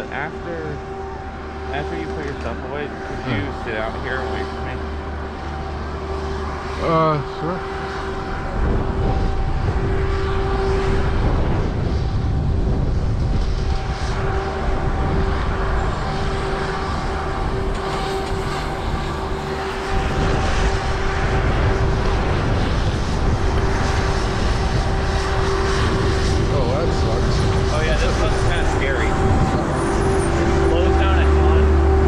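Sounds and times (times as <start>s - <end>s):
low rumbling noise: 0.0s - 32.0s
mechanical drone: 0.0s - 32.0s.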